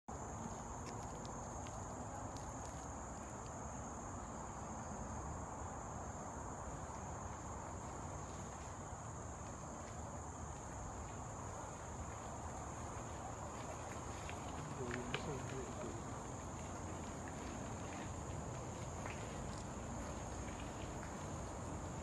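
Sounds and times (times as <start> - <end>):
forest insects droning: 0.1 - 22.0.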